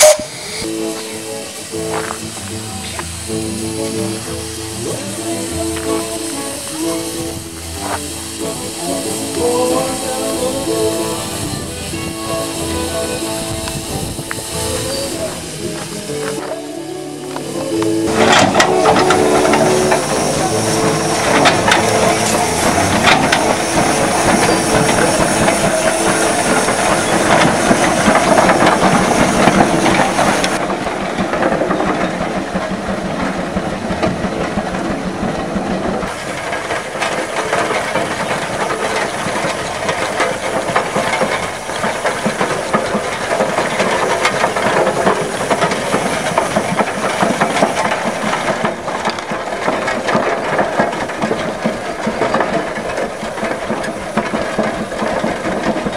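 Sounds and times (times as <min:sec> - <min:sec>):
steam engine clattering: 0:00.0 - 0:55.9
steam hissing: 0:00.0 - 0:55.9.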